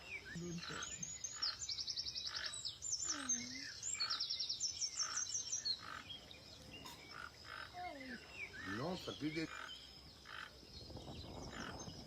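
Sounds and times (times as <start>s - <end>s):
short croaking calls: 0.0s - 4.3s, 4.9s - 6.2s, 6.8s - 10.6s, 11.5s - 12.0s.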